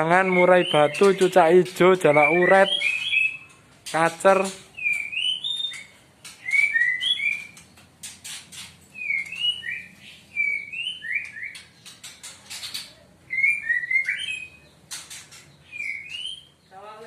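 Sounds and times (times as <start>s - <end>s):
sharp high bird chips: 0.0s - 16.6s
songbirds whistling: 0.0s - 17.0s.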